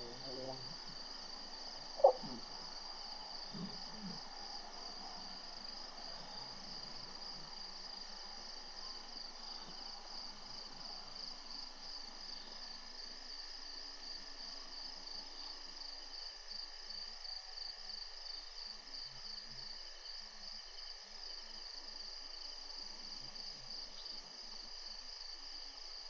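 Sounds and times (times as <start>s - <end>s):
night insects chirring: 0.0s - 26.0s.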